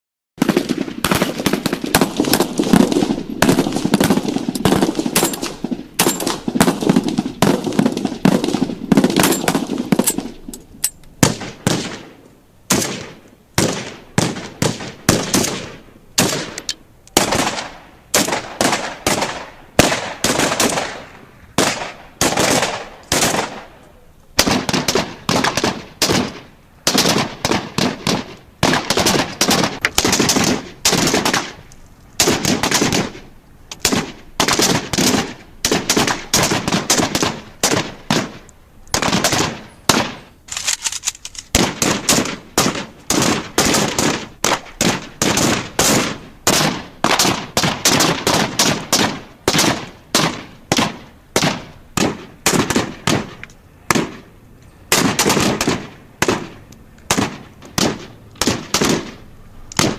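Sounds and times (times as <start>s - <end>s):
automatic gunfire: 0.4s - 10.4s, 12.7s - 16.6s, 17.2s - 21.0s, 21.6s - 23.7s, 24.4s - 31.6s, 32.2s - 33.2s, 33.8s - 38.4s, 39.0s - 40.2s, 41.5s - 53.3s, 54.9s - 59.2s.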